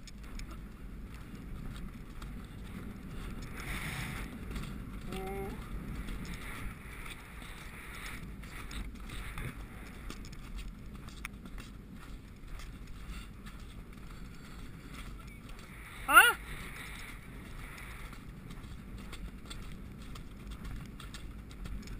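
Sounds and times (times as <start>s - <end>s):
horse tack rattling: 0.0s - 21.9s
muffled hoof thuds on grass: 0.0s - 21.9s
wind buffeting microphone: 0.0s - 21.9s.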